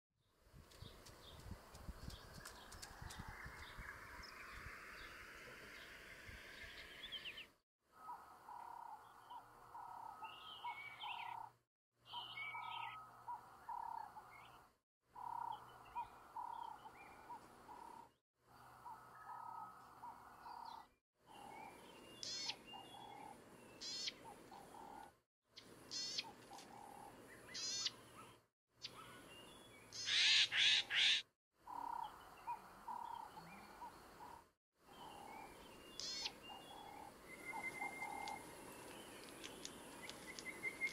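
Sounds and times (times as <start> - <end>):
birds calling and singing: 0.7 - 40.9.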